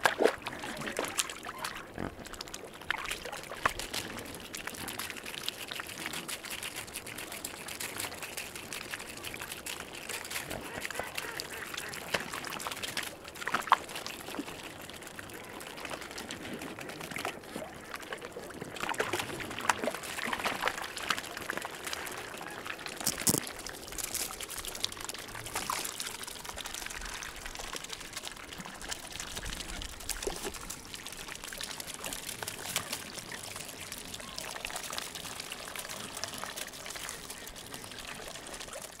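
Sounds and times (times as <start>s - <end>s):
swans dabbling and splashing: 0.0s - 39.0s.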